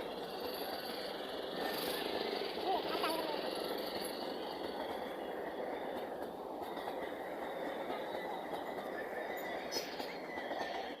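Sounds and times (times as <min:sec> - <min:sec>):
train rolling past: 0:00.0 - 0:11.0.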